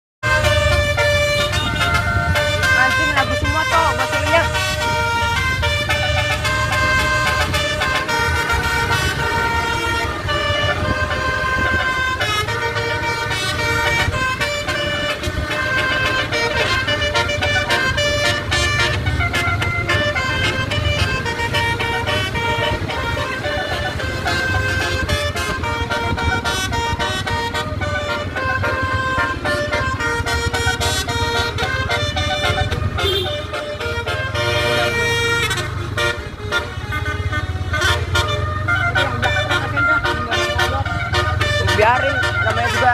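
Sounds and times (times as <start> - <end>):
bus engine rumble: 0.2 - 42.9
multi-tone bus horn tune: 0.2 - 42.9.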